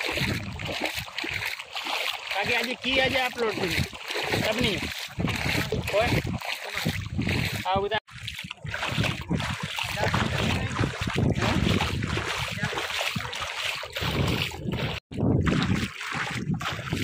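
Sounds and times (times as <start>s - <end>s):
wind buffeting microphone: 0.0s - 1.6s, 2.3s - 17.0s
feet splashing through shallow water: 0.0s - 17.0s.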